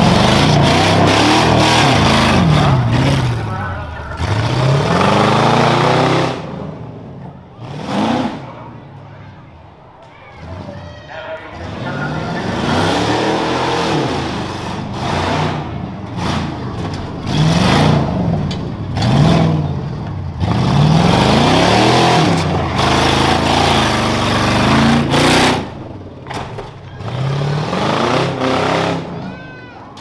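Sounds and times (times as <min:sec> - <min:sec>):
truck engine revving: 0:00.0 - 0:09.0, 0:11.4 - 0:29.4.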